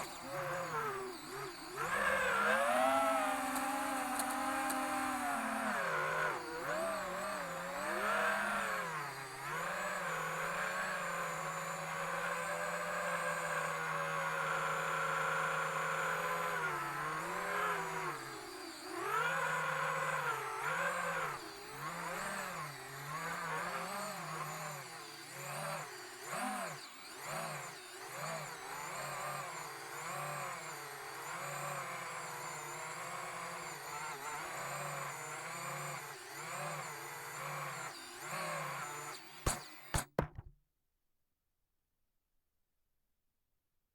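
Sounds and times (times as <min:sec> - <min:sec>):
quadcopter motors whining: 0:00.0 - 0:40.4.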